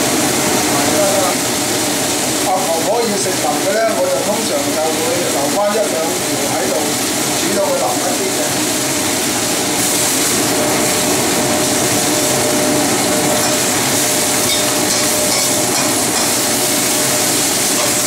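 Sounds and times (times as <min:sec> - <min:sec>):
greens sizzling in oiled wok: 0:00.0 - 0:18.0.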